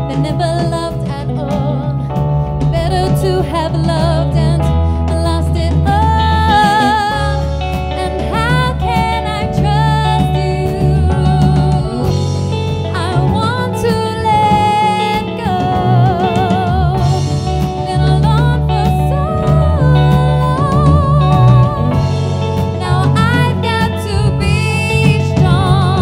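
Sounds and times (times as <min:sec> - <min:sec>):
electric bass guitar line: 0:00.0 - 0:26.0
woman singing with vibrato: 0:00.0 - 0:26.0.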